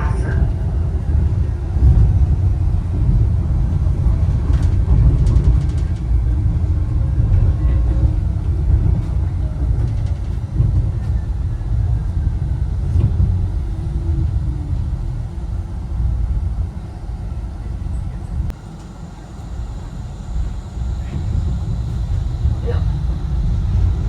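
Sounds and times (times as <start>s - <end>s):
suspension railway car rumbling: 0.0s - 24.0s.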